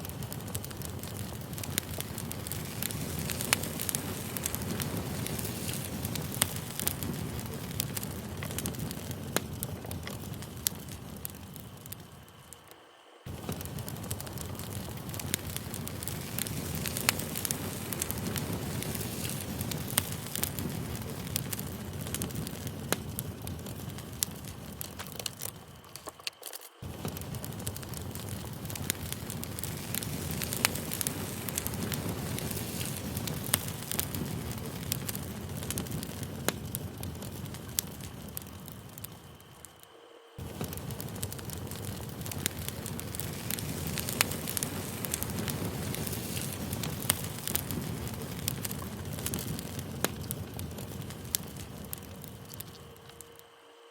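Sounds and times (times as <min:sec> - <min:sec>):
campfire crackling and popping: 0:00.0 - 0:53.5.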